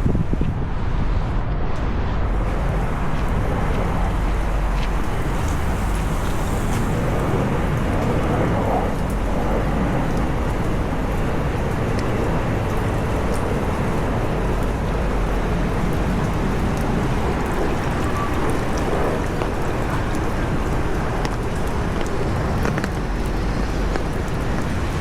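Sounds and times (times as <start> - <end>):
rain on a street: 0.0 - 25.0
road traffic noise: 0.0 - 25.0
raindrops ticking: 2.5 - 25.0.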